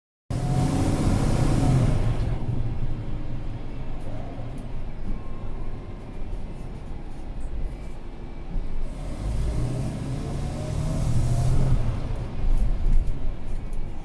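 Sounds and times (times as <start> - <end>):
bus engine running: 0.3 - 14.0.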